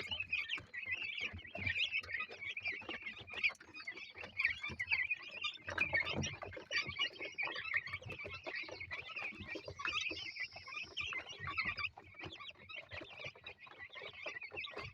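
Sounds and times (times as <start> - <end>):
chicks peeping: 0.0 - 14.9.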